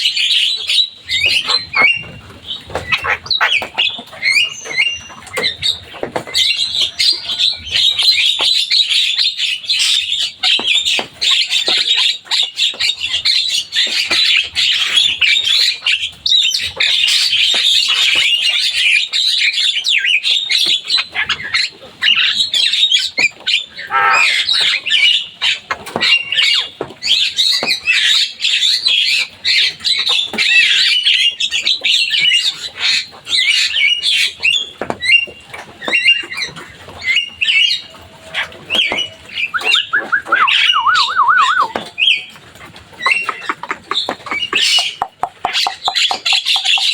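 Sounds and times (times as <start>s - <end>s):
myna bird chattering song: 0.0s - 29.2s, 35.9s - 42.4s, 43.0s - 46.9s.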